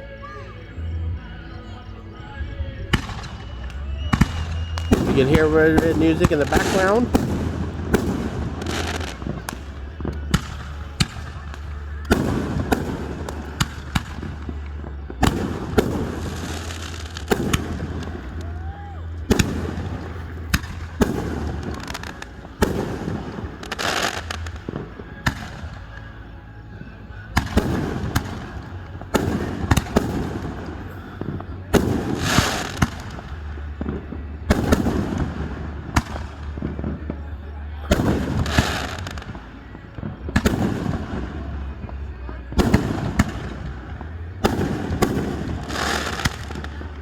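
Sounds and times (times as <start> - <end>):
fireworks crackling: 0.0 - 47.0
fireworks bursting: 1.8 - 47.0.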